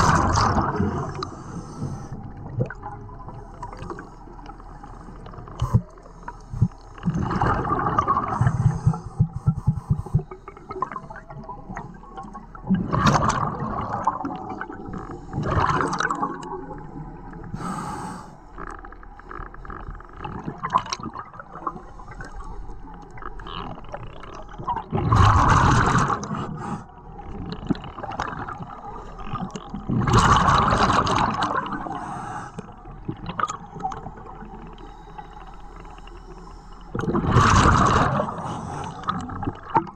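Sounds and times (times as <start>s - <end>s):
exhaled bubbles underwater: 0.0s - 18.0s, 18.6s - 39.9s.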